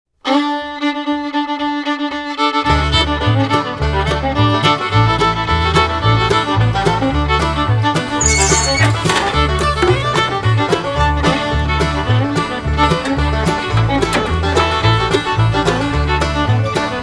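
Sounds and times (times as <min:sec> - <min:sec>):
bluegrass fiddle music: 0:00.2 - 0:17.0
bass line and beat: 0:02.7 - 0:17.0.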